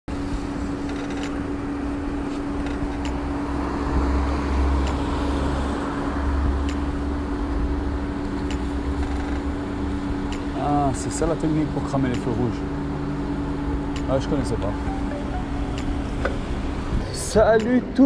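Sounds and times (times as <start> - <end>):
city street traffic hum: 0.1 - 18.0
vehicles passing: 0.1 - 18.0.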